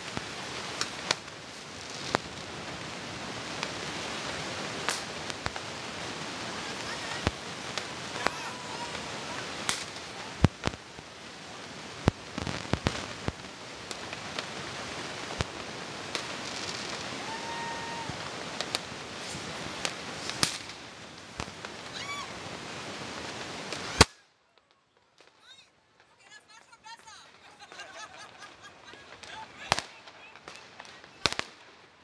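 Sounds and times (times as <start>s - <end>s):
firecracker bangs: 0.0s - 24.2s, 27.7s - 31.7s
firework whistling: 0.0s - 24.3s, 27.2s - 31.9s
distant fireworks: 0.0s - 32.0s.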